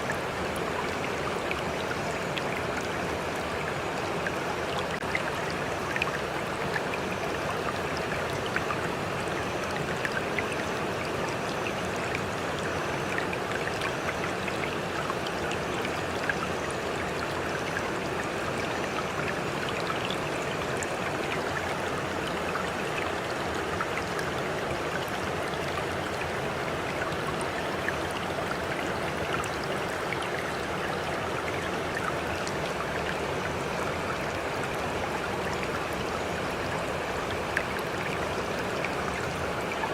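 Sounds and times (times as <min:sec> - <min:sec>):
running water flowing: 0:00.0 - 0:39.9
water drips and splashes: 0:00.0 - 0:39.9.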